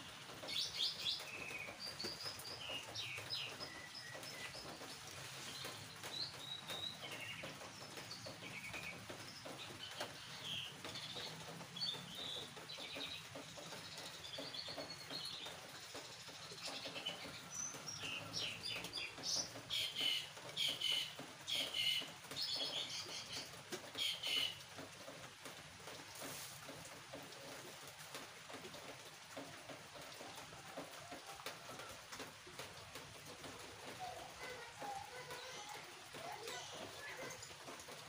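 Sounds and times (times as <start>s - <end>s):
small birds chirping: 0.0s - 25.2s, 32.4s - 38.0s.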